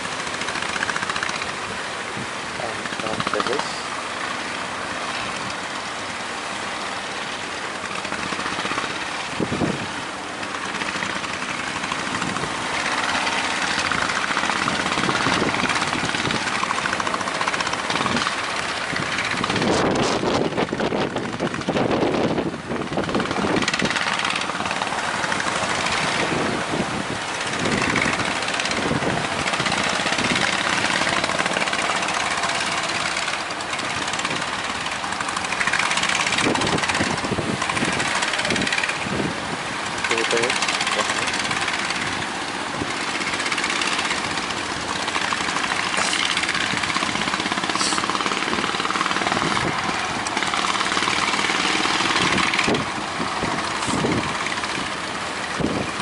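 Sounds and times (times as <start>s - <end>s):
rushing wind: 0.0s - 56.0s
speedboat motor hum: 0.0s - 56.0s
water noise: 0.0s - 56.0s.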